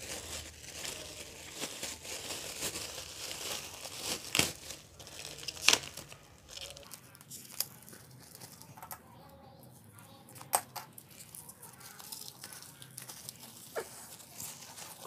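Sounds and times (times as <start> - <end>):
plastic bag crinkling: 0.0 - 9.2, 10.4 - 15.0.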